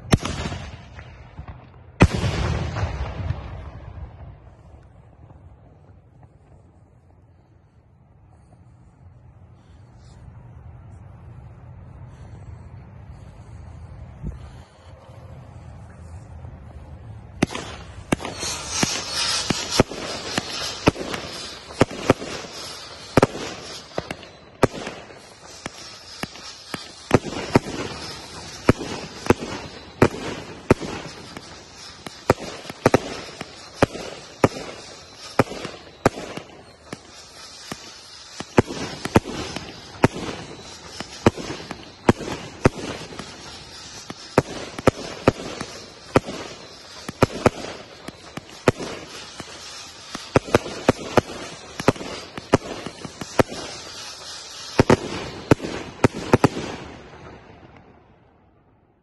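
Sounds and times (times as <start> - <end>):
fireworks banging: 0.0 - 7.1, 10.8 - 58.5
steady hiss: 0.0 - 57.8.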